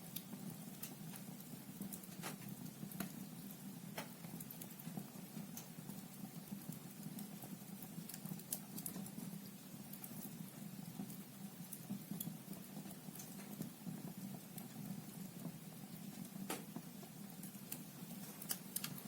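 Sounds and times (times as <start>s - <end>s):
fire crackles and pops: 0.0s - 19.0s
low rumble of flames: 0.0s - 19.0s.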